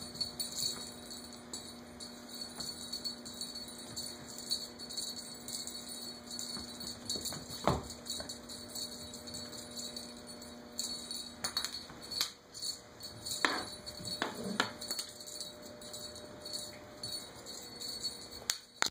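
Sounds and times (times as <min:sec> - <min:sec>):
high-pitched jingling: 0:00.0 - 0:18.9.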